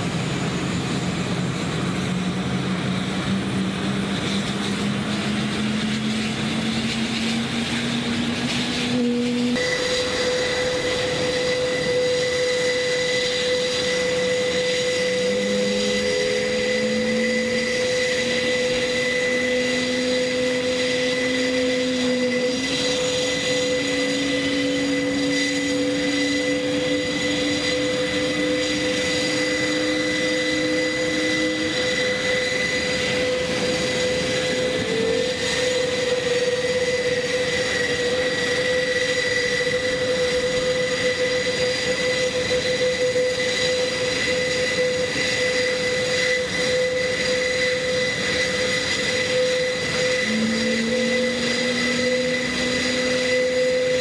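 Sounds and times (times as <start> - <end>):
turboprop engines idling whine: 0.0 - 54.0.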